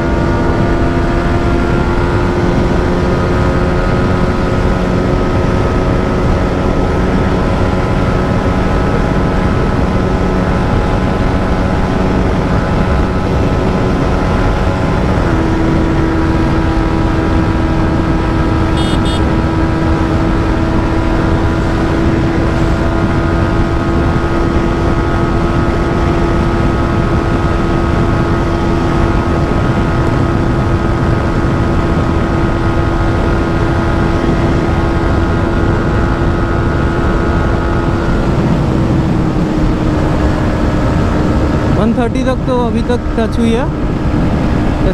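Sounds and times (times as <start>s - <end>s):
motorcycle engine at high revs: 0.0s - 41.8s
wind rush on microphone: 0.0s - 44.9s.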